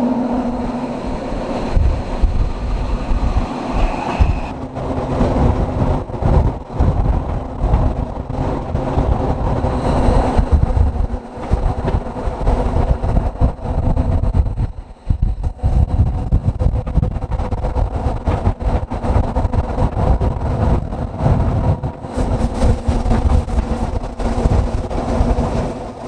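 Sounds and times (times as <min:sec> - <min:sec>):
train wheels and motors rumbling: 0:00.0 - 0:26.0
wind buffeting microphone: 0:00.0 - 0:26.0.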